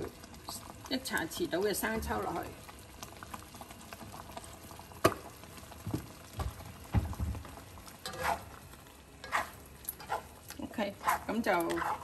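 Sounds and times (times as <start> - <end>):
sauce bubbling in a wok: 0.0 - 12.0.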